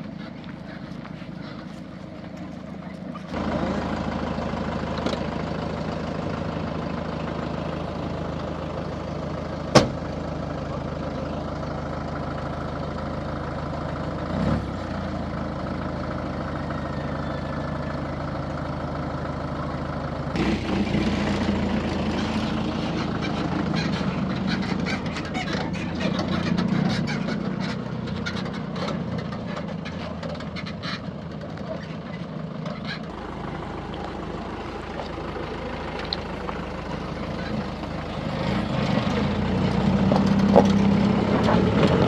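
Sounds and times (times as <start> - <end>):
truck engine running: 0.0 - 42.0.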